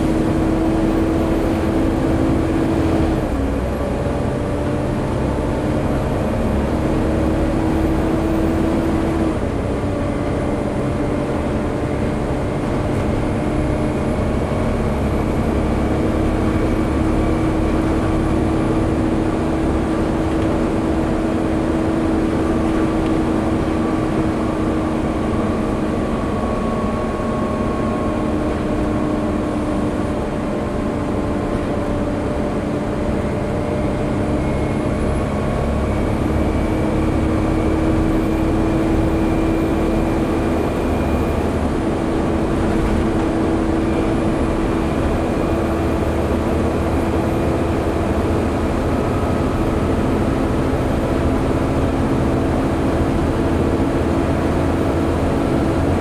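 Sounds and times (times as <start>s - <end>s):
diesel bus engine: 0.0s - 56.0s
engine cooling fan whine: 0.0s - 56.0s.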